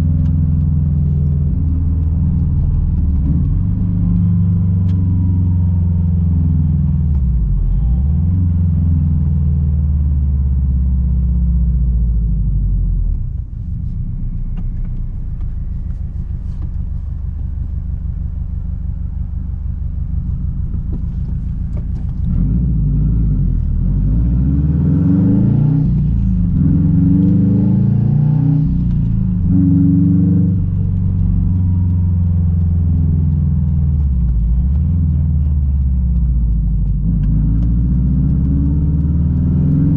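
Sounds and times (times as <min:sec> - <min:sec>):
car exhaust rumbling and revving: 0:00.0 - 0:39.9.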